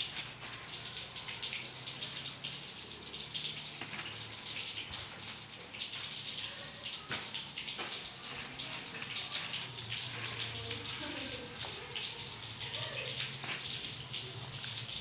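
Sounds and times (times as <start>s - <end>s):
wet squelching and trickling: 0.0s - 15.0s.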